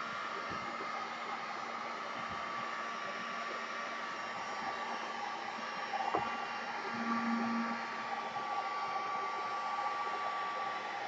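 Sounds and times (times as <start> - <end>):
fan motor whine: 0.0 - 11.0.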